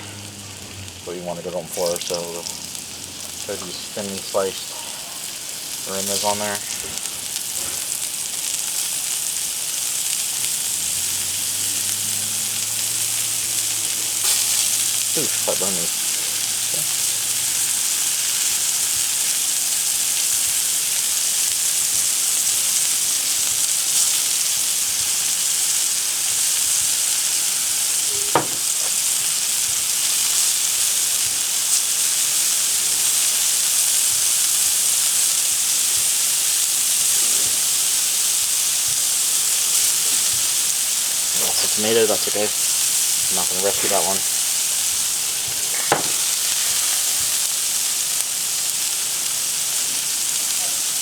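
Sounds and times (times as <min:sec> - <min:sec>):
tomatoes sizzling on griddle: 0:00.0 - 0:51.0.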